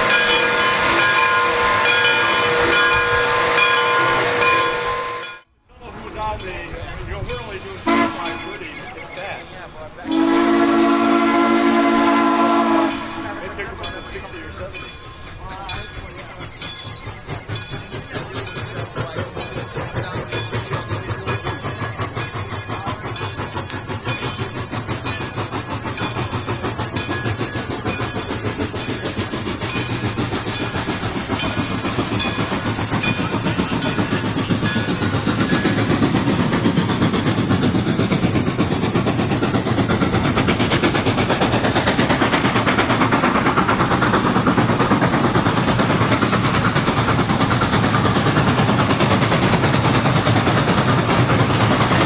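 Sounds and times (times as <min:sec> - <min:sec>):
steam locomotive running: 0:00.0 - 0:52.0.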